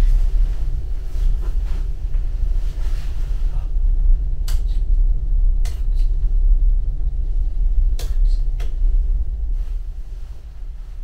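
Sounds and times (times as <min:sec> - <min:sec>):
ship engine rumble through hull: 0:00.0 - 0:11.0.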